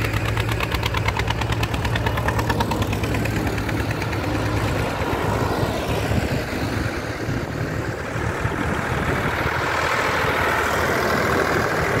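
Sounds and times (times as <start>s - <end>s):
tractor engines passing: 0.0s - 12.0s.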